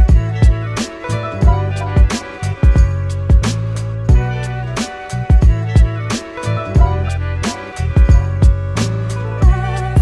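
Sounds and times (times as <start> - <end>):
held bass line: 0.0 - 10.0
steady drum beat: 0.0 - 10.0.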